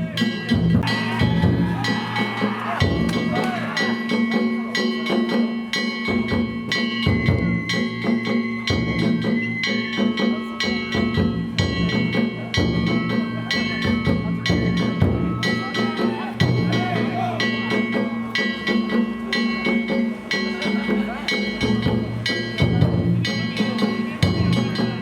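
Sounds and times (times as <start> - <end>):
ringing metal tones: 0.0 - 25.0
taiko drums fast beat: 0.2 - 25.0.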